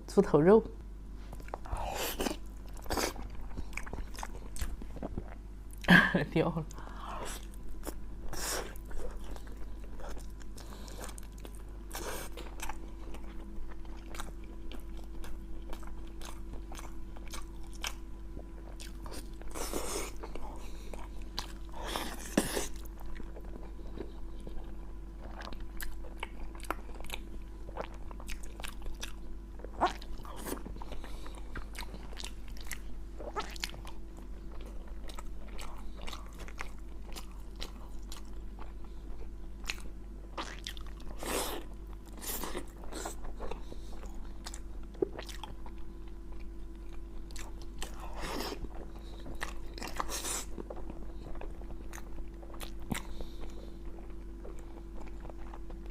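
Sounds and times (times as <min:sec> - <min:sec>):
steady low hum: 0:00.0 - 0:55.9
person chewing meat: 0:01.3 - 0:05.9, 0:06.7 - 0:55.9.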